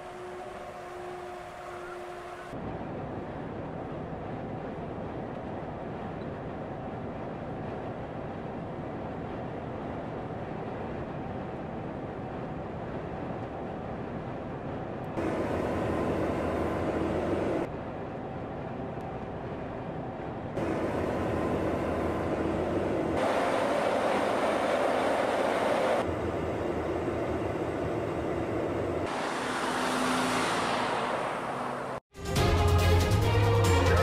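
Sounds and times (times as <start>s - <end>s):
truck driving on road: 3.4s - 34.0s.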